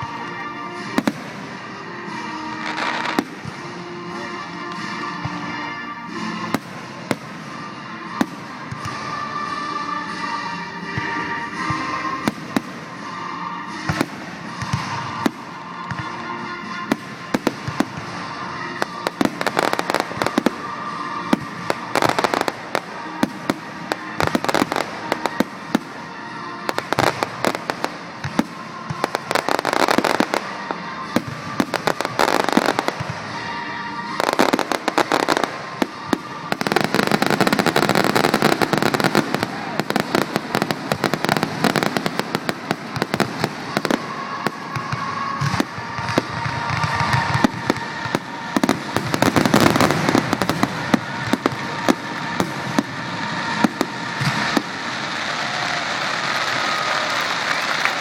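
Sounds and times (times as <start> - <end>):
background music: 0.0 - 58.0
fireworks bangs and crackling: 0.0 - 58.0.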